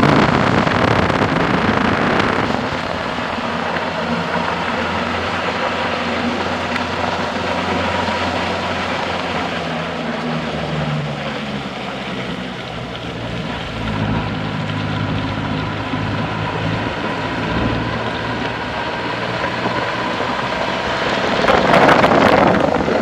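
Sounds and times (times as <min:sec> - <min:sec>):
steady rushing noise: 0:00.0 - 0:23.0
truck engine running: 0:00.0 - 0:23.0.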